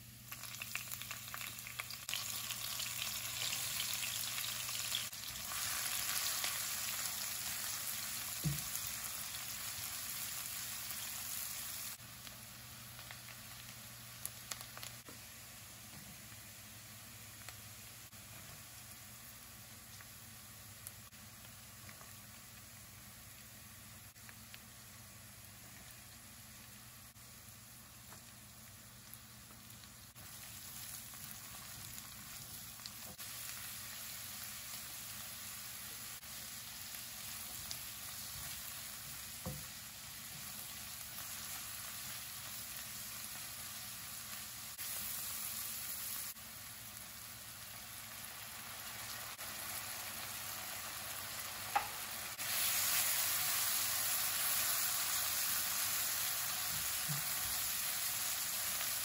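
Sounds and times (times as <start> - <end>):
vegetables sizzling in a wok: 0.0 - 59.0.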